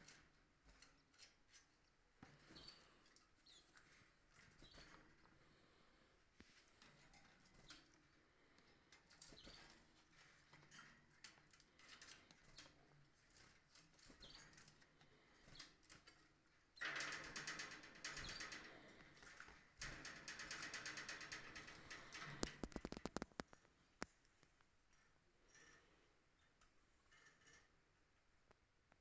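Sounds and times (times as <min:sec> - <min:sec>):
birds fluttering and scratching: 0:00.0 - 0:23.7
faint ticks and rustles: 0:00.0 - 0:29.0.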